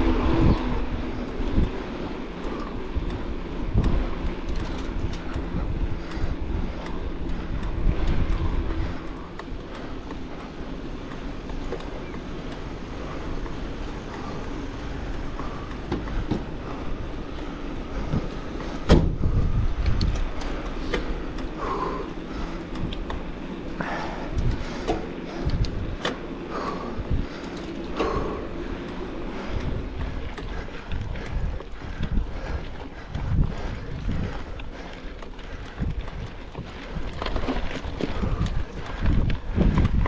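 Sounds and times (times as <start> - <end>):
wind rushing over microphone: 0.0 - 12.1, 12.8 - 40.0
bike clicks and rattles: 0.0 - 40.0.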